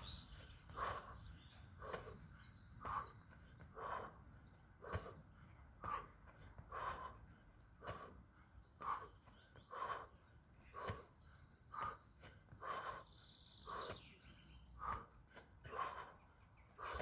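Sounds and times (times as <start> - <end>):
faint birds chirping: 0.0 - 17.0
man breathing hard: 0.0 - 17.0.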